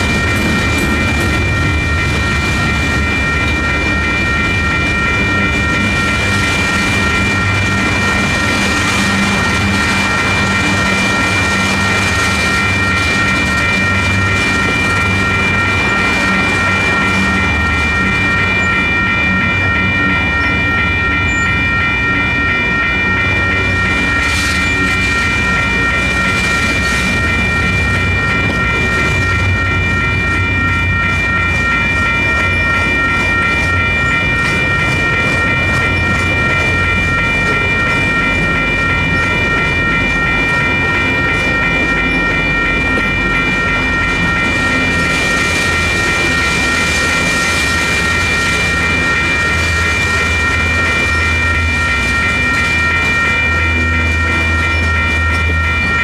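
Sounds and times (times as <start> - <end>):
electronic crossing bells ringing: 0.0 - 56.0
freight train rumbling with wheel clatter: 0.0 - 56.0.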